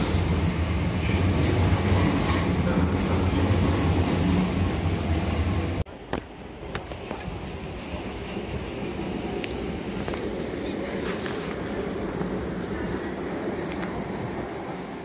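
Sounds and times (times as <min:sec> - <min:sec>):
electric train rumble and hum: 0:00.0 - 0:15.0
station background: 0:00.0 - 0:15.0.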